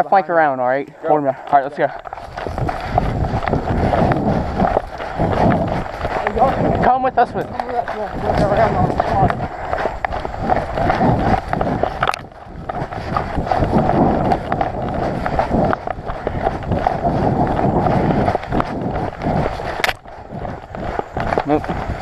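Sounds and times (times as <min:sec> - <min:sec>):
footsteps running on rough ground: 0:00.0 - 0:22.0
gear rustling: 0:01.6 - 0:22.0.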